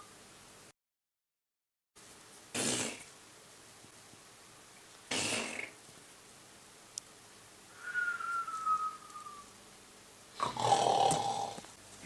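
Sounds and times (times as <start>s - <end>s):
faint steady hiss: 0.0s - 0.7s, 2.0s - 12.0s.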